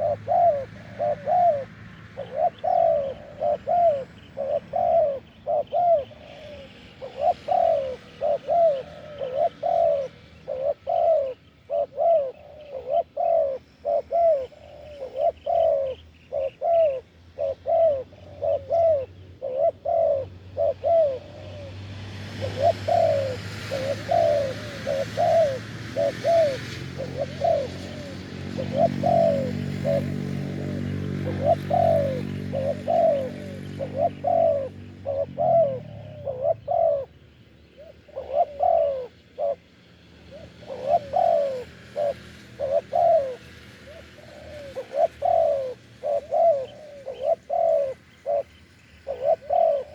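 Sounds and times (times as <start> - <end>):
doves cooing: 0.0 - 49.9
low droning hum and hiss: 0.0 - 49.9.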